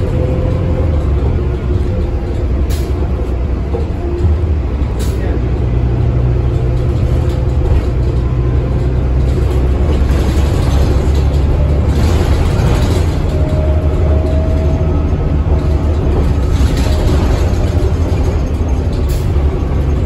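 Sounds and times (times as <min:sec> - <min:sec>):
bus engine drone: 0:00.0 - 0:20.0
road noise: 0:00.0 - 0:20.0.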